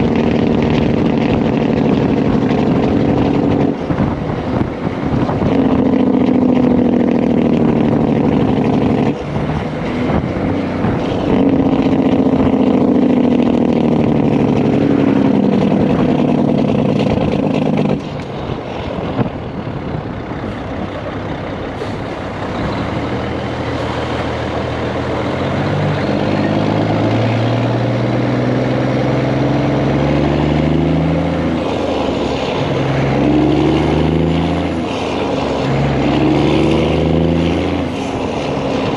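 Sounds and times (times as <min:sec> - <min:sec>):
loud diesel truck engine: 0:00.0 - 0:38.9.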